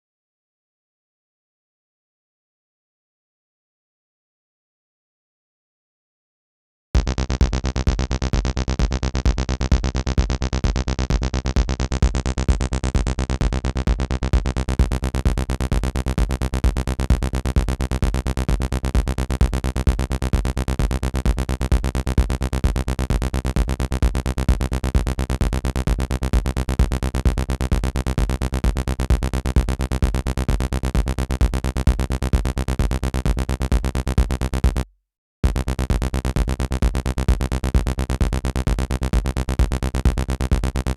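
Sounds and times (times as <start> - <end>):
drum machine beat: 7.0 - 34.8, 35.4 - 40.9
synth bassline: 7.0 - 34.8, 35.4 - 40.9.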